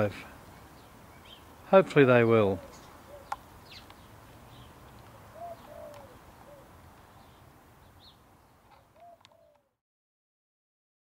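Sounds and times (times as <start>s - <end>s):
birds calling: 0.0s - 9.8s.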